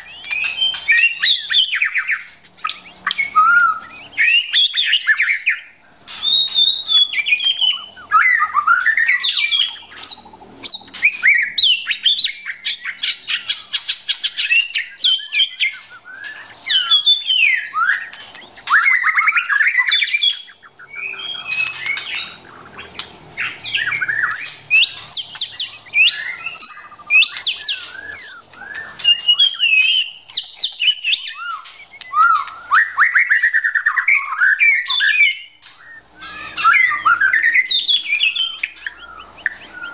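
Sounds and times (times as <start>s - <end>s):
bird harsh chattering: 0.0s - 39.9s
bird whistling calls: 0.0s - 39.9s.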